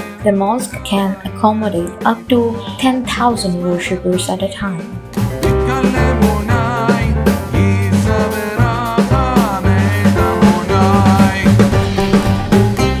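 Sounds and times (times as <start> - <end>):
music with drum beat and bass: 0.0 - 13.0.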